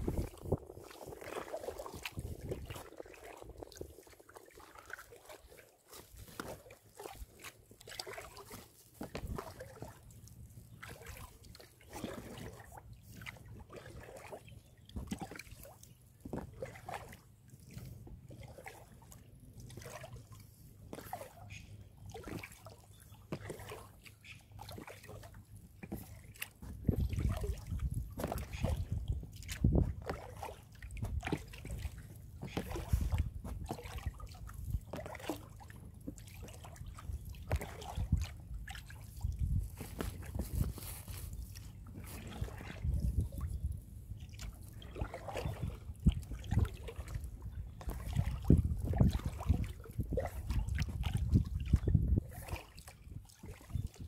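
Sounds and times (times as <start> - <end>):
paddle sloshing and dripping water: 0.0 - 54.0.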